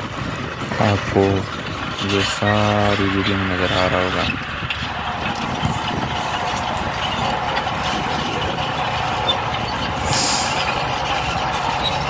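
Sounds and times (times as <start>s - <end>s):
heavy machine engines running: 0.0s - 12.0s.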